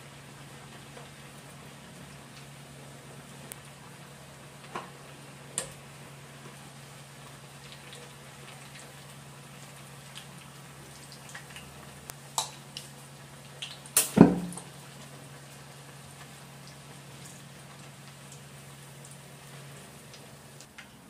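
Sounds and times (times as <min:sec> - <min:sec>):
oil sizzling and bubbling: 0:00.0 - 0:21.0.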